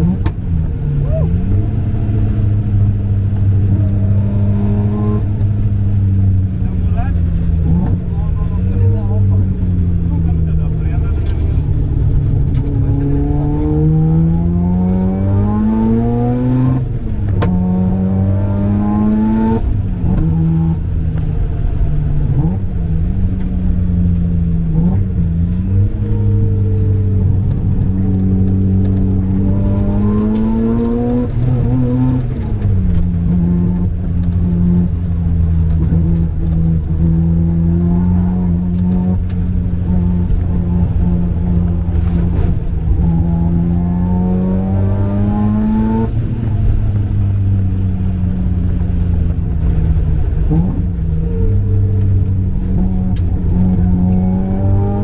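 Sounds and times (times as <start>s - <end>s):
rotary engine revving: 0.0s - 55.0s.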